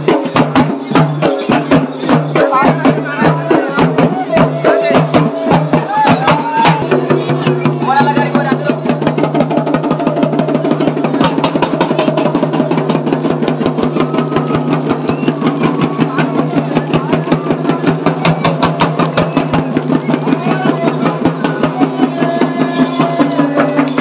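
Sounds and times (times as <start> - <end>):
drum beaten in fast rhythm: 0.0 - 24.0.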